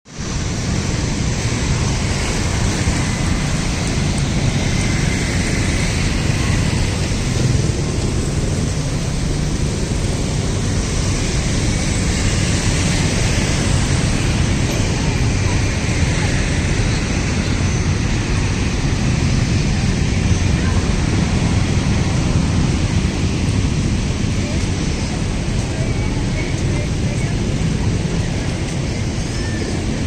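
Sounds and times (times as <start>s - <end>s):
loud rumbling with hiss: 0.1s - 30.0s.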